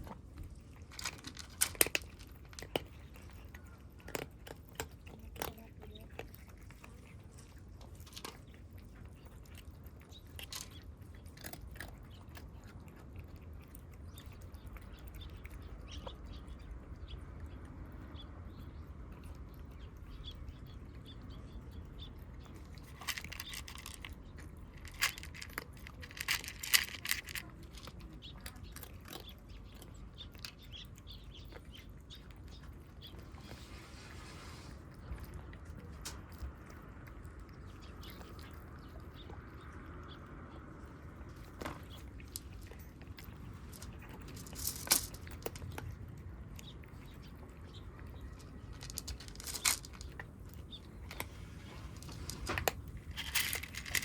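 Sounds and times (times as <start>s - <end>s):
kittens crunching and chewing: 0.0s - 54.0s.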